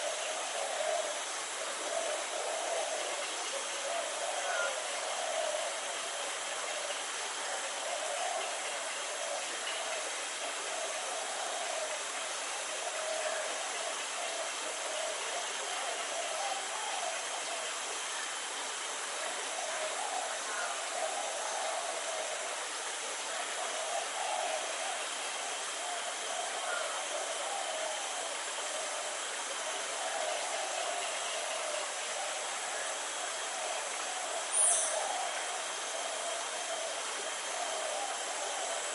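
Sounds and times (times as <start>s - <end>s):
faint wavering murmur: 0.0s - 38.9s
steady outdoor hiss: 0.0s - 38.9s.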